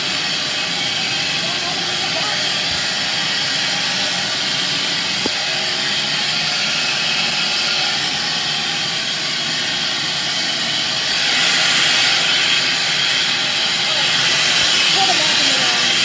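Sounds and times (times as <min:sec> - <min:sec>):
shop vacuum running: 0:00.0 - 0:16.0.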